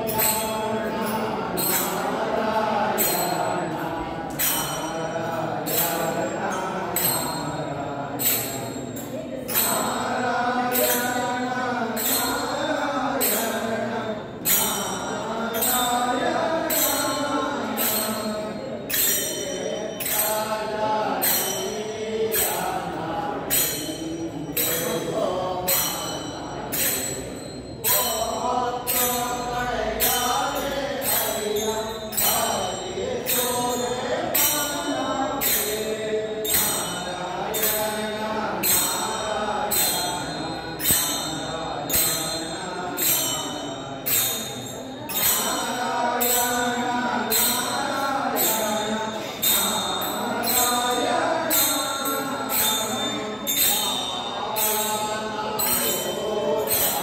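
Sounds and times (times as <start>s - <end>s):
group chanting devotional melody: 0.0s - 57.0s
small hand cymbals: 0.0s - 57.0s.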